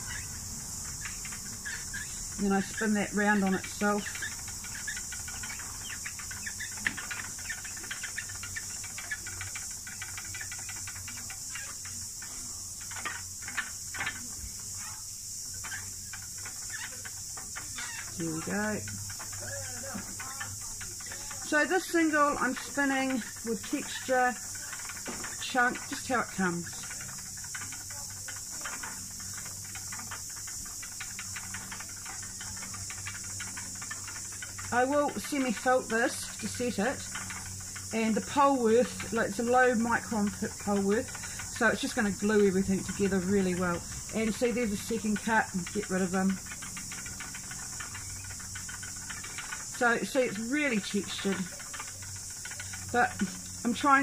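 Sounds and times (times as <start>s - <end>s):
cicadas singing: 0.0s - 54.0s
light scattered clicks: 0.8s - 54.0s.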